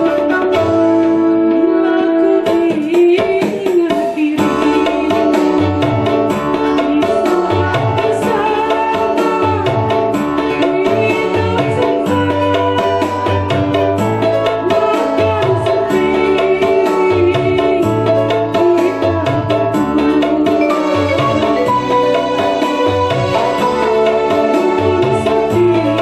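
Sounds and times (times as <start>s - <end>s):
woman singing into a microphone: 0.0s - 26.0s
hand drum rhythm: 1.8s - 26.0s.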